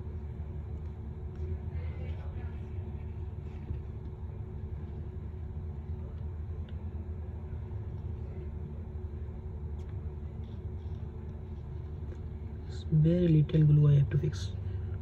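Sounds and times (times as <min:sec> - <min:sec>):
faint even hum: 0:00.0 - 0:15.0
low background rumble: 0:00.0 - 0:15.0.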